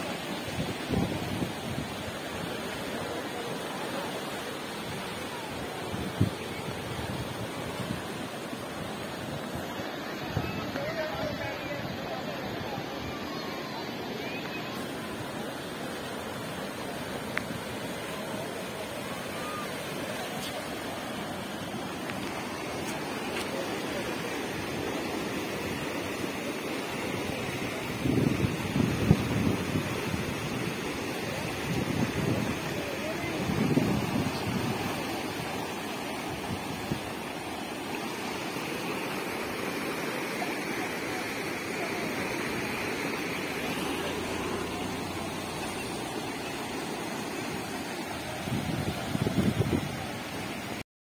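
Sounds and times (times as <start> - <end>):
floodwater rushing over concrete: 0.0 - 50.8.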